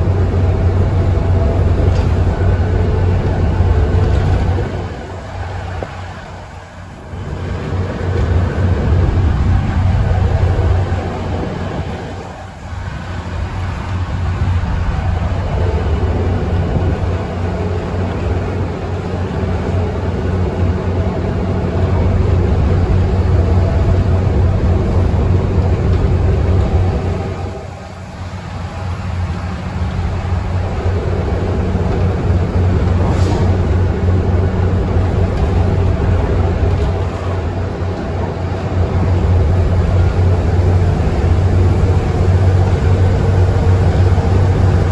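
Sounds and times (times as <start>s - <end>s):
bus diesel engine under load: 0.0s - 44.9s.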